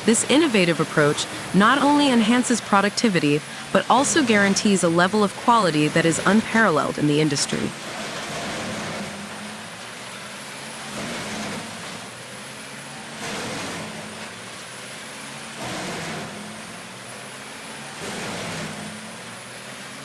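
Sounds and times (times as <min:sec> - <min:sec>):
wood grinder engine drone: 0:00.0 - 0:19.6.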